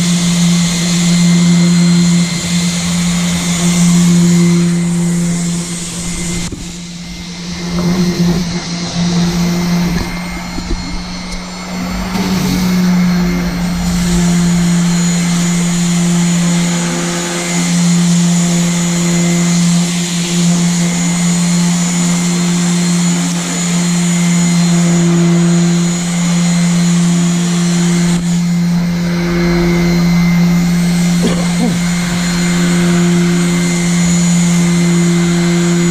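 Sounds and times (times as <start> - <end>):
electric disc sander: 0.0 - 35.9.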